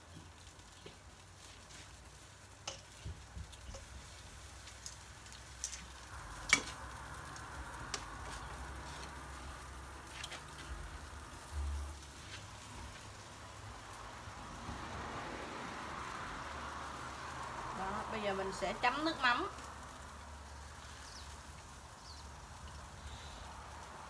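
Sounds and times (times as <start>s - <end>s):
meat sizzling on grill: 0.0s - 24.0s.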